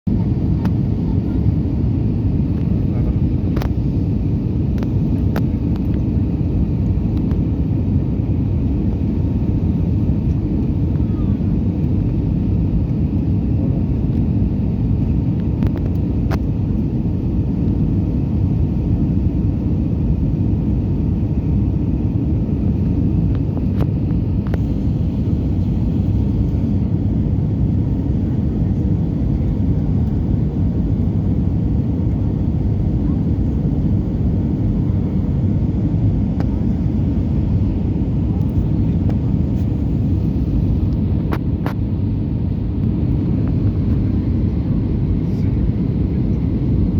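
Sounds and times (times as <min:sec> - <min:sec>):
aircraft cabin engine rumble: 0:00.1 - 0:46.9.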